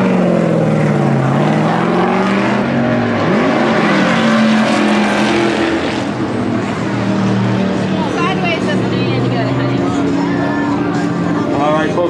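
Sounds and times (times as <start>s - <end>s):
racing car engines passing: 0.0s - 12.0s.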